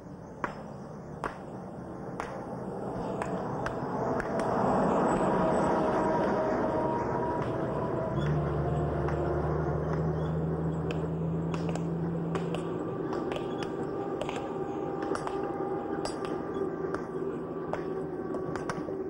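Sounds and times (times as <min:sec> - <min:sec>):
truck engine running: 0:02.7 - 0:19.0.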